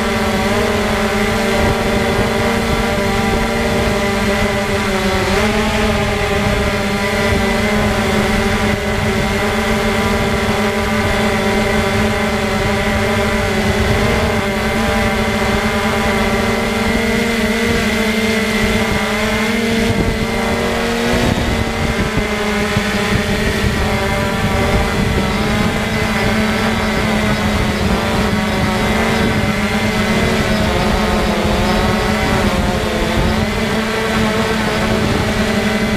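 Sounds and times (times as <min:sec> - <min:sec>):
drone propellers whining: 0:00.0 - 0:35.9.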